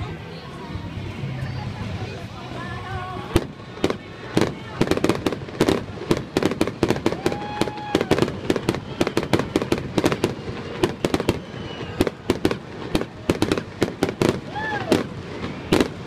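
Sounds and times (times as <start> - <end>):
fireworks bursting: 2.0 - 16.0.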